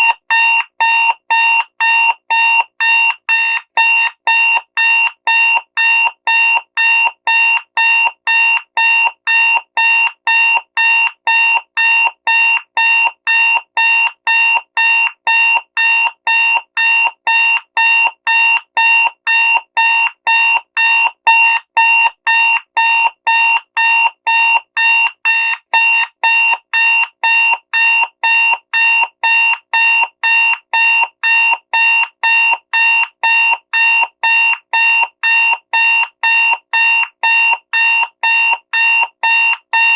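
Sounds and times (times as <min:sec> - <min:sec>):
digital alarm clock beeping: 0:00.0 - 0:39.9.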